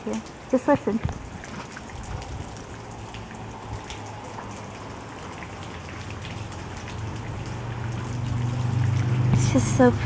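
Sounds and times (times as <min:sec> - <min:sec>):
rain pattering on hard surface: 0:00.0 - 0:10.0.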